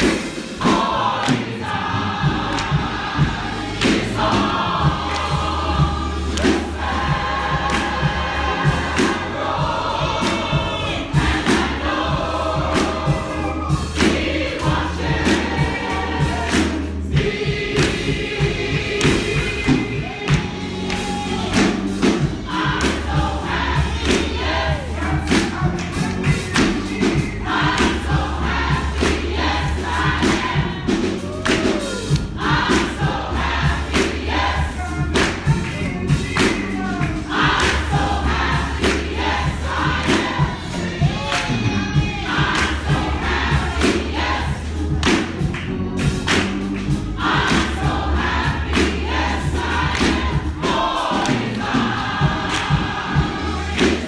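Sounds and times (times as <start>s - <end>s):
band playing: 0.0s - 54.0s
congregation singing gospel: 0.0s - 54.0s
low bass notes: 1.7s - 54.0s.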